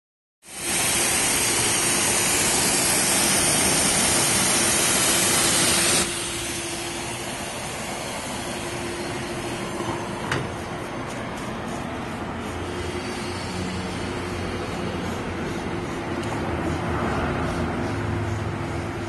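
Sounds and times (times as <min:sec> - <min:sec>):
pressure washer spraying hiss: 0:00.4 - 0:19.0.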